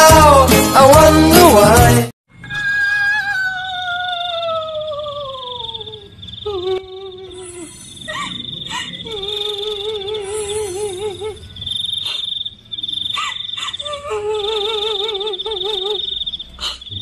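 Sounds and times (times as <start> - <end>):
high cricket-like trill: 2.3 - 17.0
warbling call: 2.4 - 17.0.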